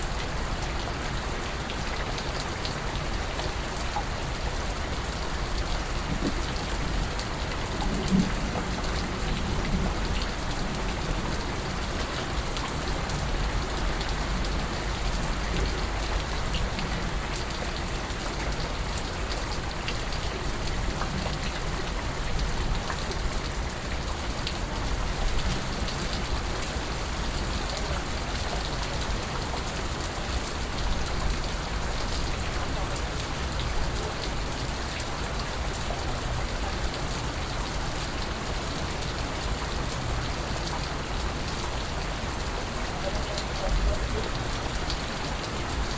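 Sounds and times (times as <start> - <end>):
steady rainfall: 0.0 - 45.9.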